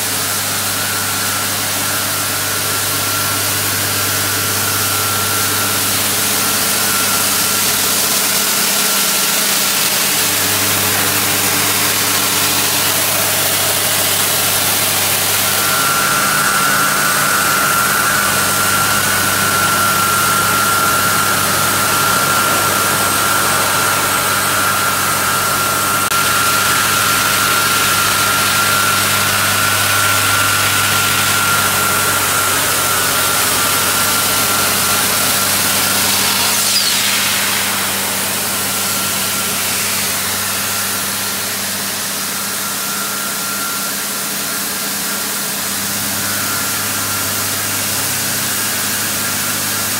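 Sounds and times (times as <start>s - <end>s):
high whine: 0.0s - 49.1s
drill rig running: 0.0s - 49.9s.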